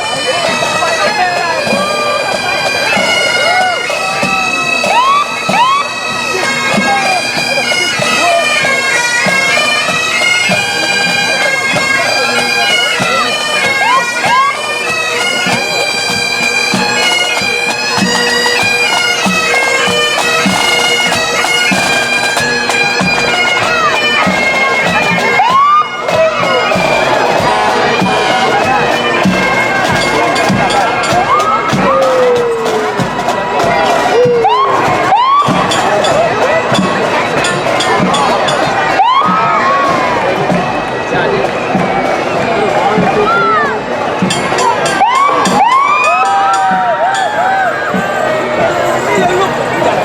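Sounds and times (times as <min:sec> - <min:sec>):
bagpipes playing a tune: 0:00.0 - 0:50.0
drum beats: 0:00.0 - 0:50.0.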